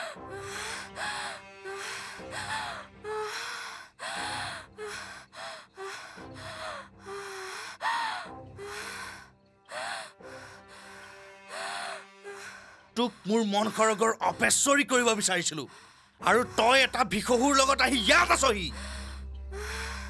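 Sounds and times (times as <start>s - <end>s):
droning music: 0.0s - 20.0s.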